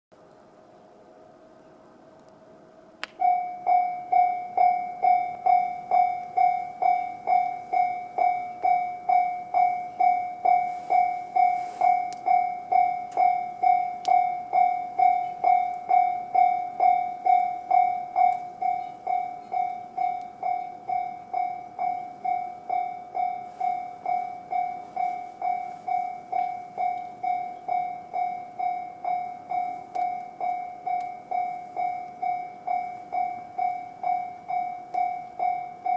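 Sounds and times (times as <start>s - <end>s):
alarm switch click: 3.0s - 35.6s
level crossing bell dinging: 3.2s - 35.9s.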